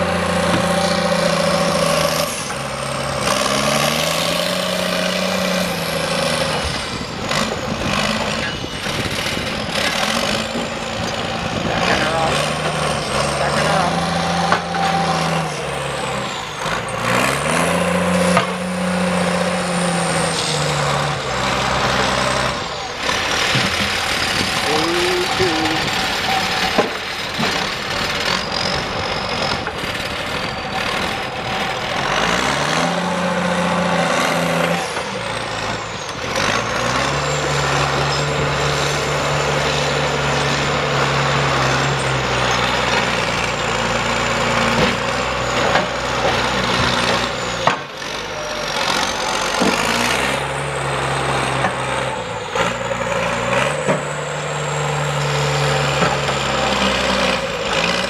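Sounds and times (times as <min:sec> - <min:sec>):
heavy machine engine revving: 0:00.0 - 0:58.0.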